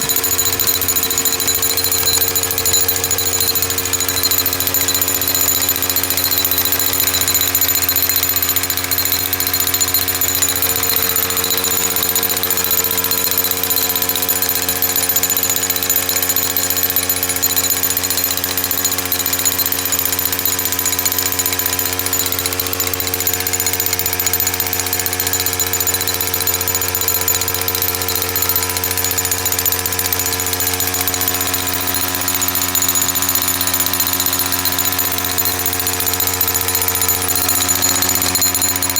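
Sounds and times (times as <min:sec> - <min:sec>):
jackhammer pounding: 0:00.0 - 0:38.9.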